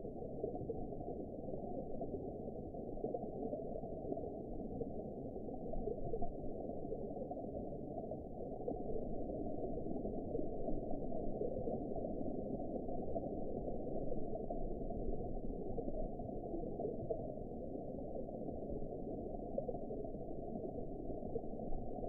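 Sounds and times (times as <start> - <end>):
muffled underwater water wash: 0.0 - 22.0.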